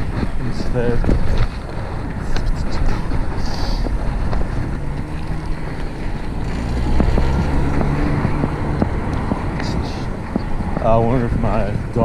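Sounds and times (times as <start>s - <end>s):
low steady drone: 0.0s - 12.0s
road rumble: 0.0s - 12.0s
wind on microphone: 0.0s - 12.0s.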